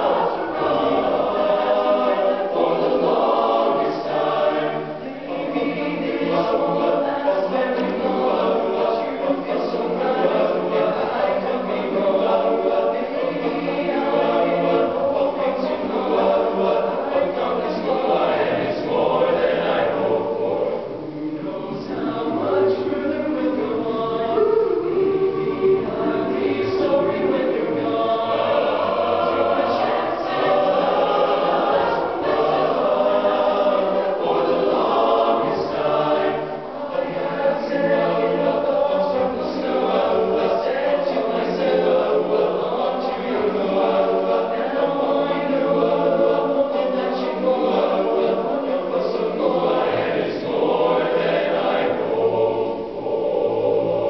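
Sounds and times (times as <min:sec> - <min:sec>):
male choir singing a cappella: 0:00.0 - 0:54.0.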